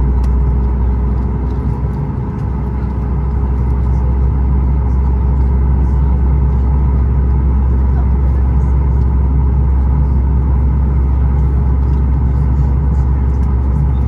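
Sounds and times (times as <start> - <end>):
jet engine cabin rumble: 0.0 - 14.0.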